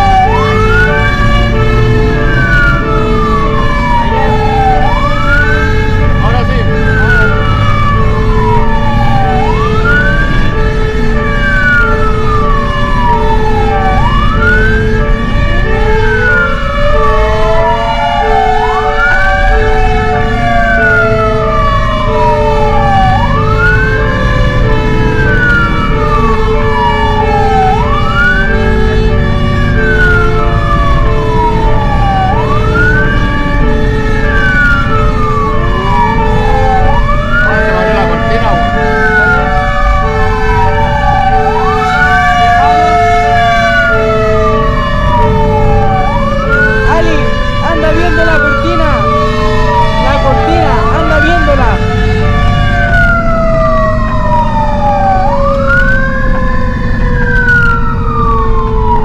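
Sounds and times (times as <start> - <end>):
faint second siren: 0.0 - 59.0
fire engine siren wailing: 0.0 - 59.0
low engine and road rumble: 0.0 - 59.0.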